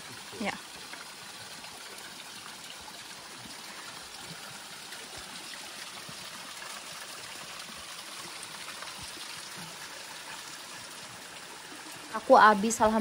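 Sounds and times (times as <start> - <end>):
water trickling down rock: 0.0 - 13.0.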